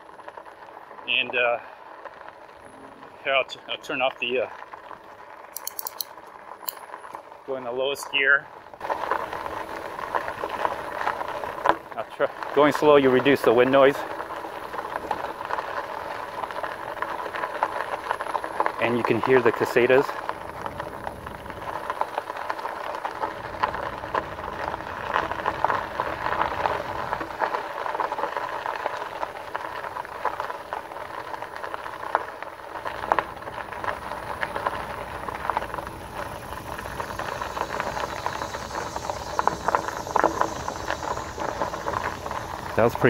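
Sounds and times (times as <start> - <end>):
bike tyres crunching on gravel: 0.0 - 43.0
cicadas buzzing: 5.4 - 43.0.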